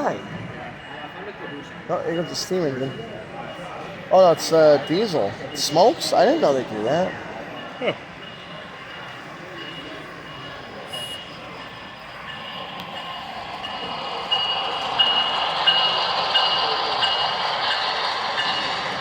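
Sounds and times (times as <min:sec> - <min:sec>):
model locomotive running on track: 0:00.0 - 0:19.0.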